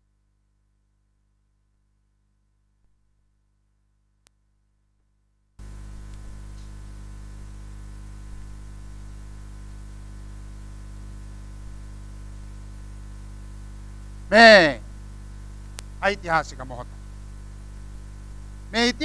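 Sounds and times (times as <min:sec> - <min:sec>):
electrical mains hum with hiss: 0:00.0 - 0:19.0.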